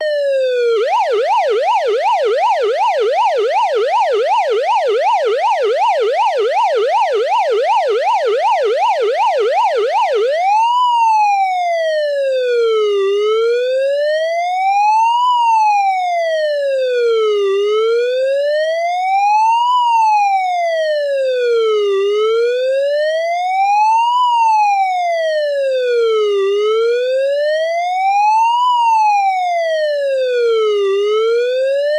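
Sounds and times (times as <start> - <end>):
police car siren: 0.0 - 31.9.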